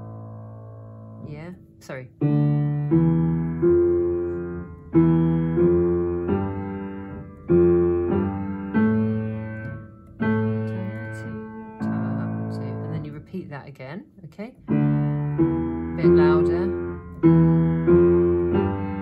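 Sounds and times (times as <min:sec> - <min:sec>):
slow piano playing: 0:00.0 - 0:13.6, 0:14.6 - 0:19.0.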